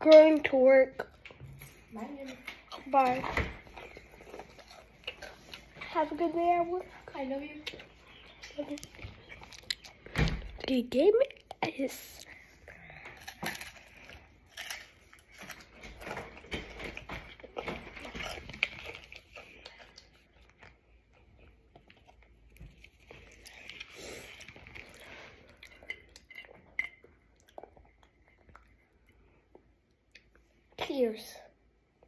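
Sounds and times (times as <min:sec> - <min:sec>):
crunching and chewing chips: 0:00.2 - 0:30.4.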